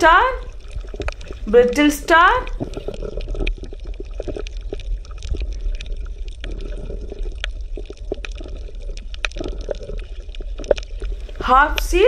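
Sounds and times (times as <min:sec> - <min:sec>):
water sloshing and bubbling: 0:00.0 - 0:12.0.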